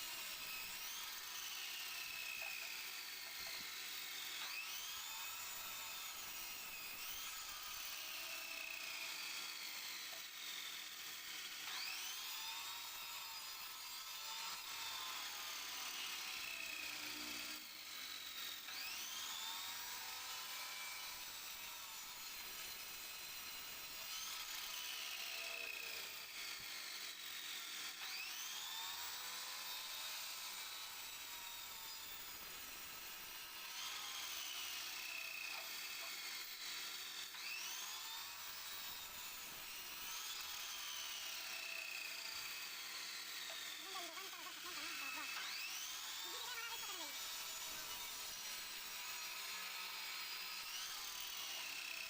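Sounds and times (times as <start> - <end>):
wood lathe cutting whine: 0.0 - 52.0.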